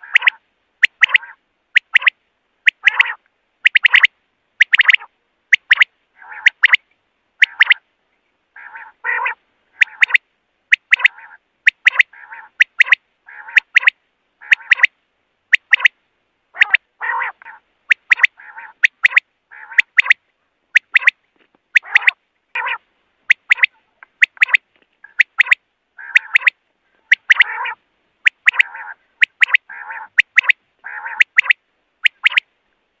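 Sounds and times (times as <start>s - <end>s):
quail calling: 0.0s - 7.8s, 8.5s - 32.5s.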